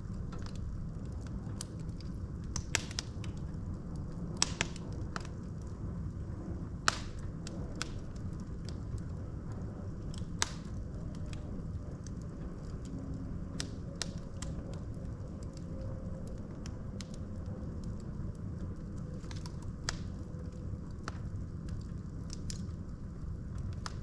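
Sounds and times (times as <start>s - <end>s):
crackles and pops of burning logs: 0.0s - 24.0s
fire burning in fireplace: 0.0s - 24.0s.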